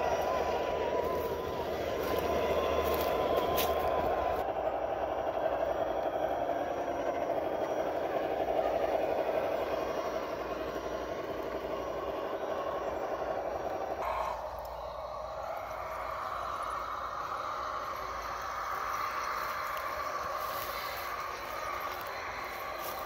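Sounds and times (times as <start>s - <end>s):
rc truck motor whirring: 0.0s - 23.0s.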